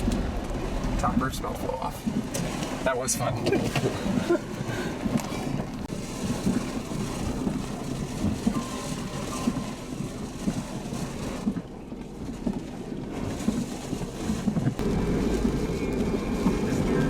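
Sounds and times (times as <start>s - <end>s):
vehicle road and engine noise: 0.0s - 17.0s.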